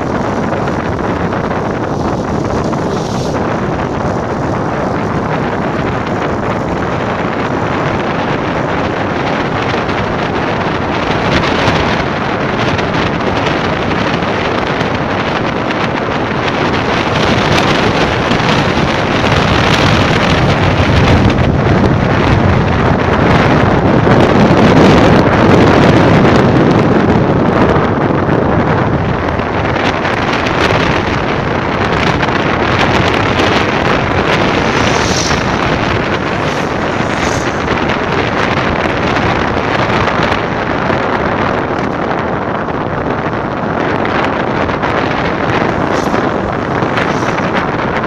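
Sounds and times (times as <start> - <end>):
vehicle running: 0.0 - 48.0
wind noise on microphone: 0.0 - 48.0.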